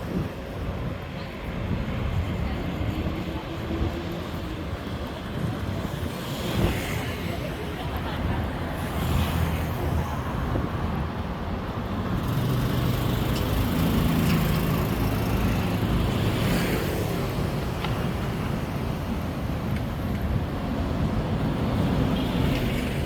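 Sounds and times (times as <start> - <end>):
vehicles passing on road: 0.0 - 23.0.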